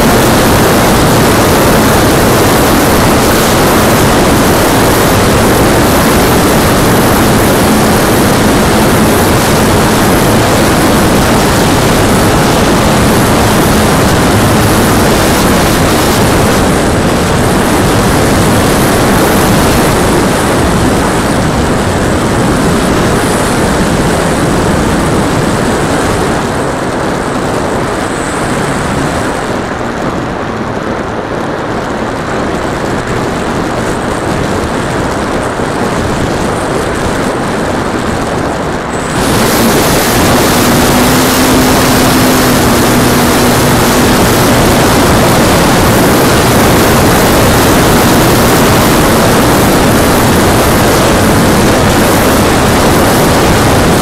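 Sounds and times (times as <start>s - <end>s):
wind and propeller rushing: 0.0s - 54.0s.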